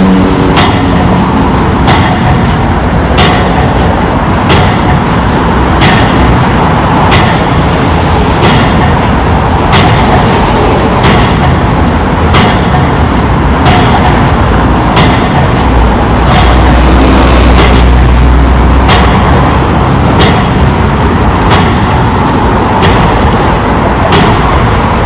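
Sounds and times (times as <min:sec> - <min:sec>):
piling rig machinery running: 0:00.0 - 0:25.0.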